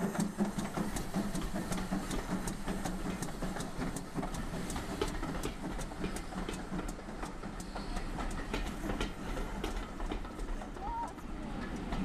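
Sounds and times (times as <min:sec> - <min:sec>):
steam locomotive rumble: 0:00.0 - 0:12.0.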